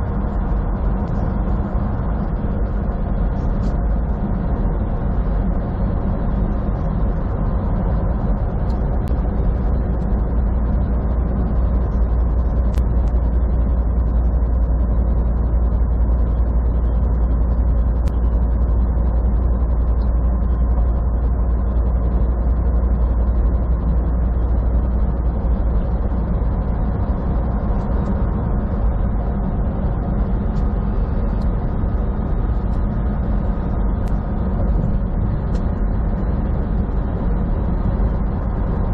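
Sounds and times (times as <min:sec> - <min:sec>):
truck engine and tyres droning: 0:00.0 - 0:38.9.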